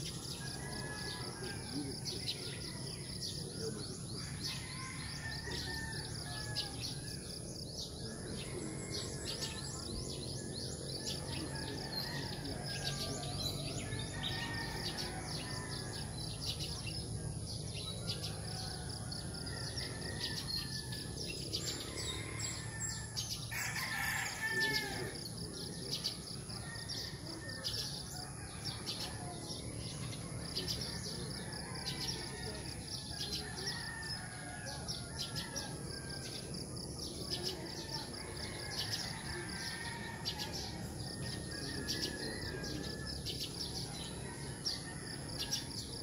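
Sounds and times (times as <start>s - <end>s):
roosters crowing: 0.0s - 17.0s, 18.1s - 46.0s.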